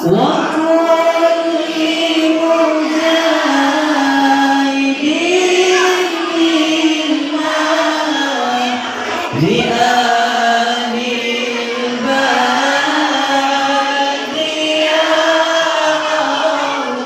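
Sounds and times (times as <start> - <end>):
group chanting in unison: 0.0 - 17.0.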